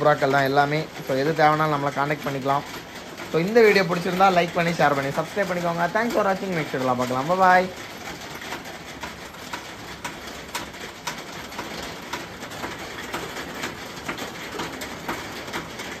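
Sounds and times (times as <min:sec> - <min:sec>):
sharp clicks and taps: 0:02.1 - 0:16.0.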